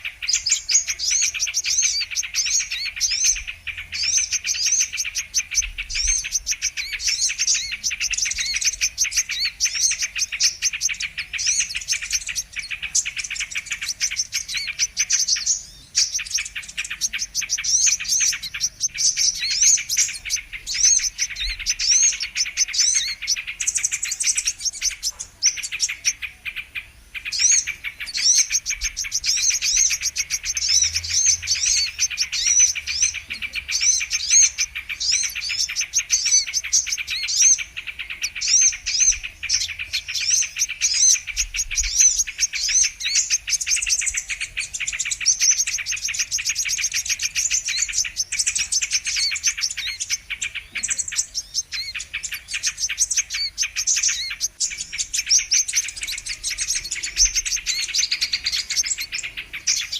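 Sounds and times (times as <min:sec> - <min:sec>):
sunbird twittering song: 0:00.0 - 0:59.9.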